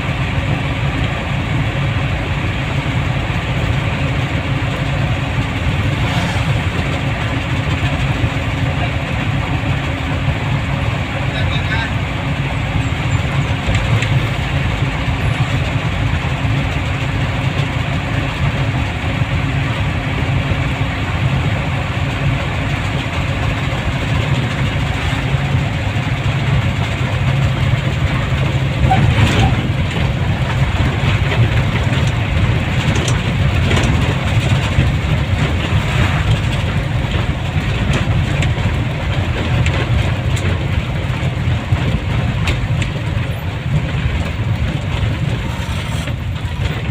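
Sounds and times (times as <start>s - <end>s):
vehicle engine and road noise: 0.0s - 46.9s.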